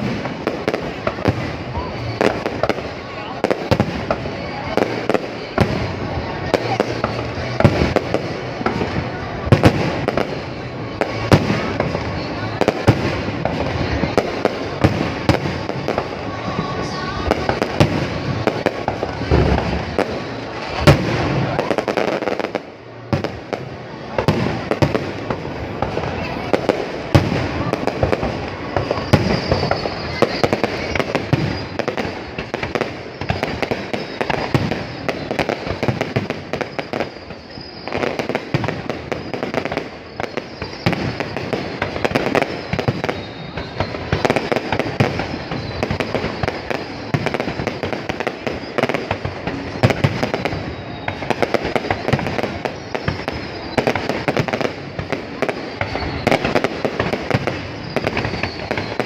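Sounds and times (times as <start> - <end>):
faint high firework whistles: 0.0 - 59.0
fireworks bangs and crackling: 0.0 - 59.0.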